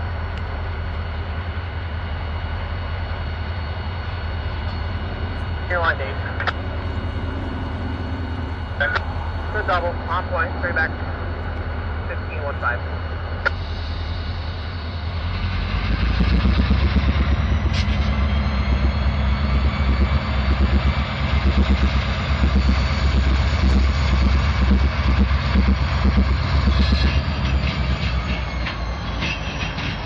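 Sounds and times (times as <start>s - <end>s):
diesel locomotive engines rumbling: 0.0s - 30.0s.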